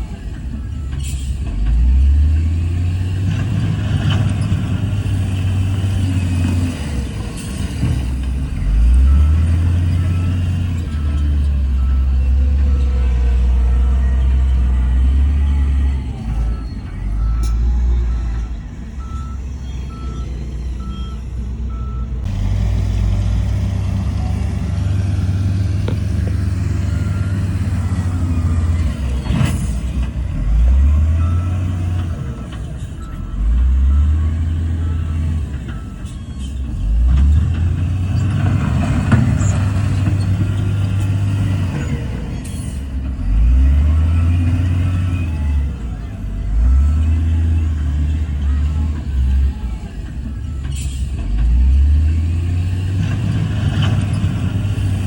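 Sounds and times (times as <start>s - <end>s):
heavy diesel engine under load: 0.0s - 55.0s
reversing alarm beeping: 4.4s - 22.3s, 23.9s - 37.1s, 39.2s - 54.8s.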